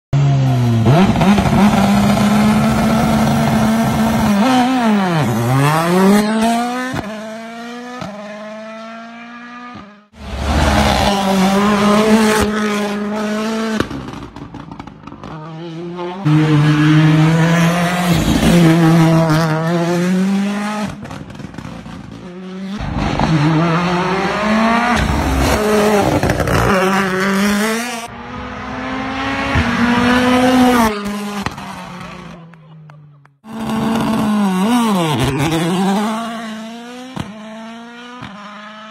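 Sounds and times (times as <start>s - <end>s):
rally car engine revving: 0.2s - 32.8s, 33.4s - 38.9s.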